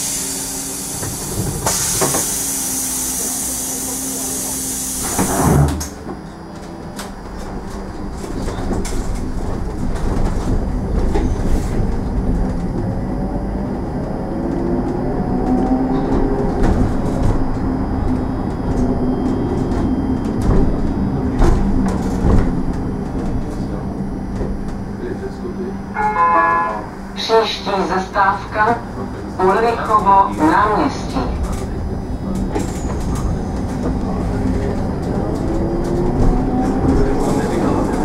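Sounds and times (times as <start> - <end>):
bus road rumble: 0.0 - 38.0.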